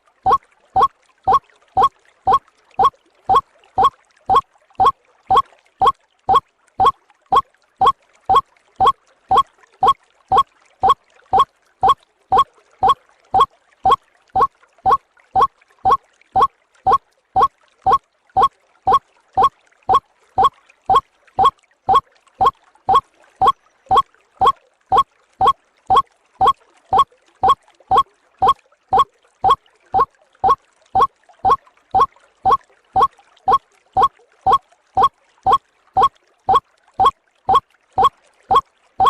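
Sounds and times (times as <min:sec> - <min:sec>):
waterhen call: 0:00.1 - 0:38.6.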